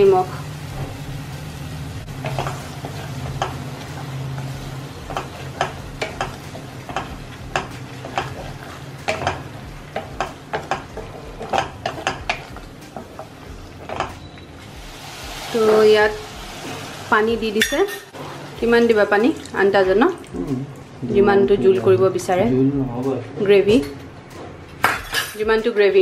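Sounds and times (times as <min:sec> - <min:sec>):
frying sizzle: 0:00.0 - 0:23.9.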